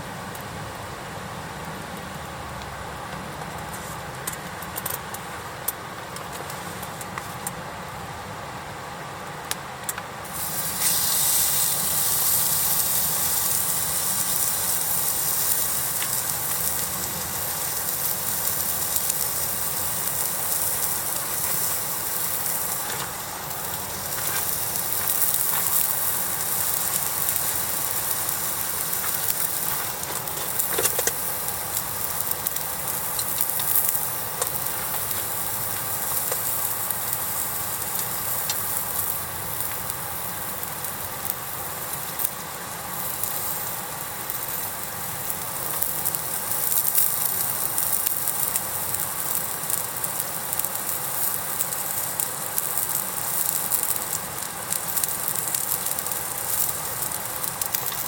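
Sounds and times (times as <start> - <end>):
fire crackles: 0.1 - 58.0
food sizzling on hot plate: 10.2 - 58.0.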